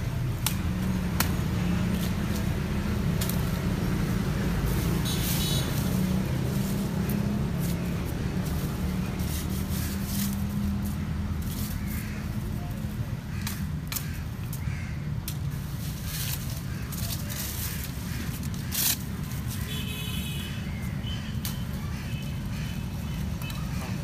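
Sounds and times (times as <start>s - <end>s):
sickle snapping cane stems: 0.0s - 19.8s, 20.9s - 21.8s
vehicle engines droning: 0.0s - 24.0s.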